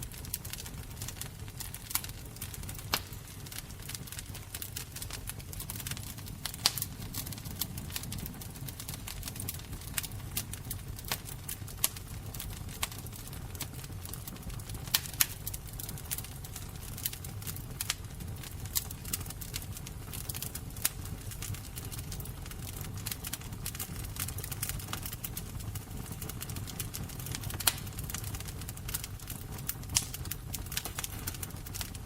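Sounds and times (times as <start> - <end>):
fire crackling: 0.0 - 32.0.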